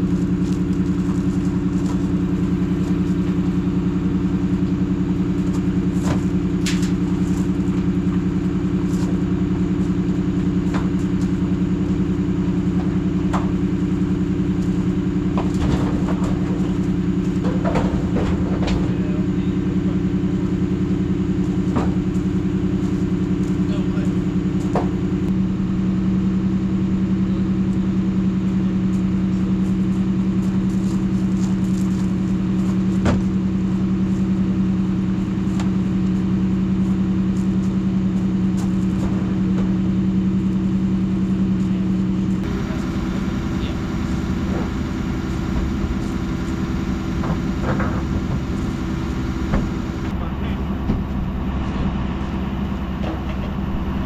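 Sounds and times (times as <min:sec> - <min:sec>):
rough engine rumble: 0:00.0 - 0:54.0
vehicle engine humming: 0:00.0 - 0:54.0.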